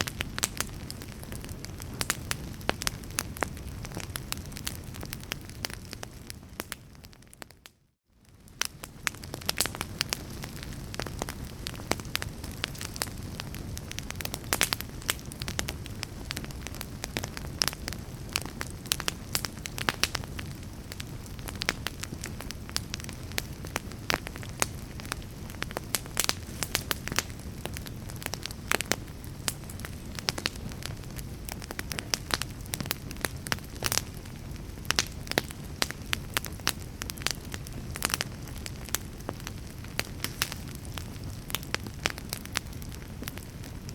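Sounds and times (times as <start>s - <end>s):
fire crackling and popping: 0.0s - 43.9s
low rumble of fire: 0.0s - 43.9s.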